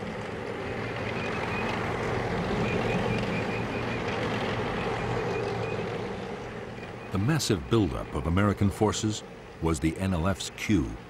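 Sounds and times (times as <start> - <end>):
track noise: 0.0 - 11.0
tracked vehicle engine drone: 0.0 - 11.0.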